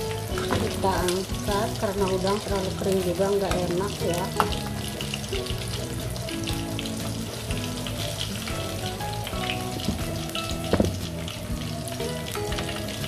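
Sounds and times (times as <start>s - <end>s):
background music: 0.0s - 13.0s
shrimp sizzling in hot oil: 0.0s - 13.0s.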